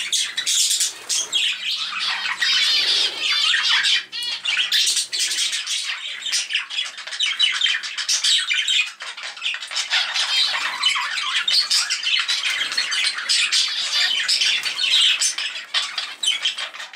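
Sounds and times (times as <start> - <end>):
budgerigars chattering and squawking: 0.0 - 16.9.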